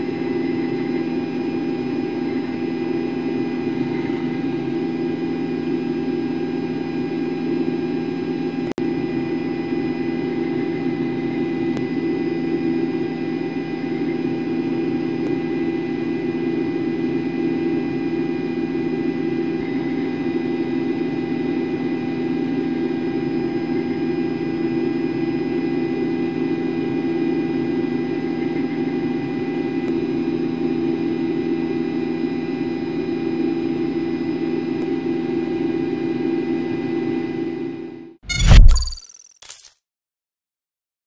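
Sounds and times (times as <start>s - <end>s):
helicopter engine drone: 0.0s - 39.0s.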